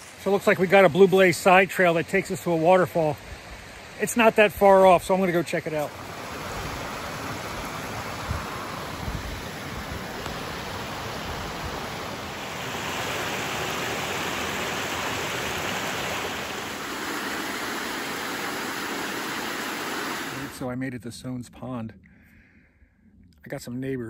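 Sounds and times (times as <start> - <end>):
waterfall rushing over rocks: 0.0 - 20.6.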